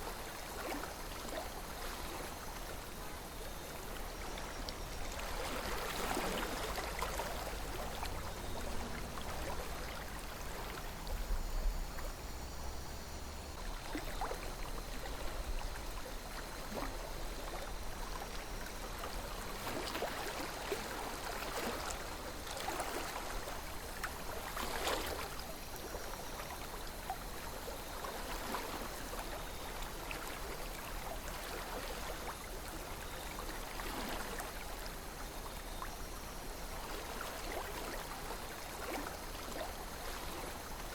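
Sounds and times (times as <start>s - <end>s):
river water flowing: 0.0s - 40.9s
water gurgles and splashes: 0.0s - 40.9s.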